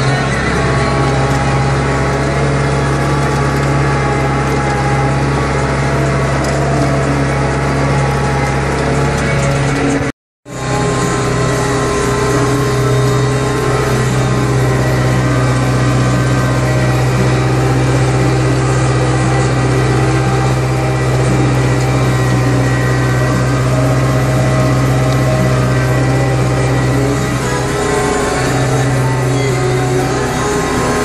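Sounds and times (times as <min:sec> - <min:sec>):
tractor engine droning: 0:00.0 - 0:31.0.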